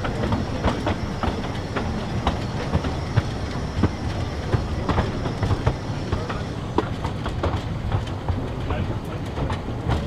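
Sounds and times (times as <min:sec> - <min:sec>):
train rumbling on track: 0:00.0 - 0:10.0
wheels clicking over rail joints: 0:00.0 - 0:10.0.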